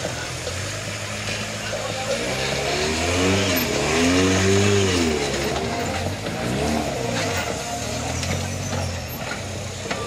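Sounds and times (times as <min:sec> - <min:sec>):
buggy engine revving: 0:00.0 - 0:10.0.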